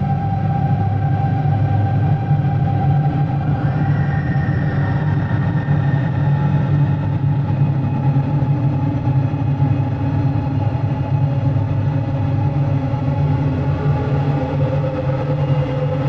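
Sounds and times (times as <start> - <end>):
low synthesizer drone: 0.0 - 16.0.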